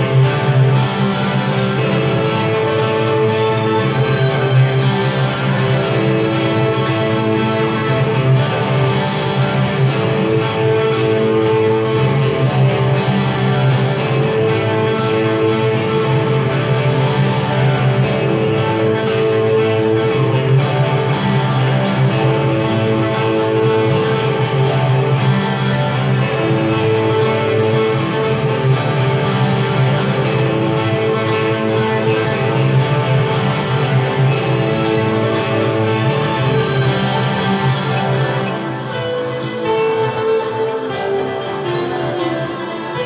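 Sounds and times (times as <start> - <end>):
electric guitar playing along: 0.0 - 43.0
rock band music: 0.0 - 43.0.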